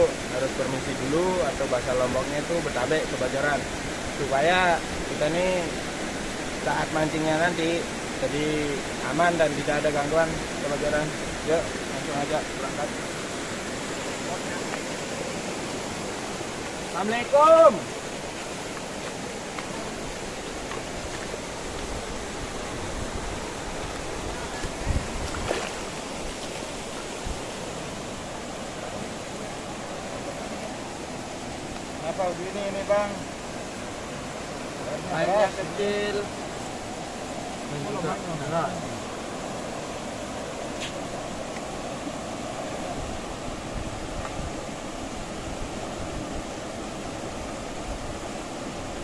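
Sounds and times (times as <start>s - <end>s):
river water flowing: 0.0s - 49.0s.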